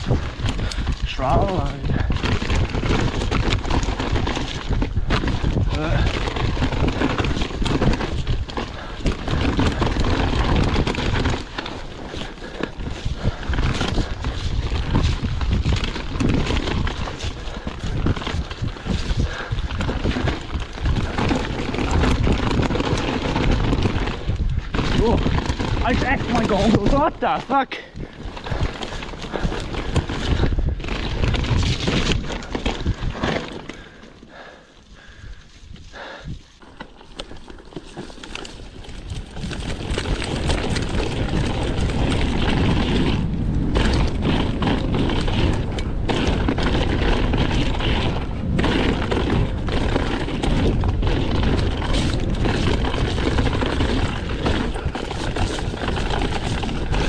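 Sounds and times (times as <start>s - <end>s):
wind buffeting microphone: 0.0s - 36.6s, 38.5s - 57.0s
bike clattering over bumps: 0.0s - 57.0s
bike tyre noise: 0.0s - 57.0s.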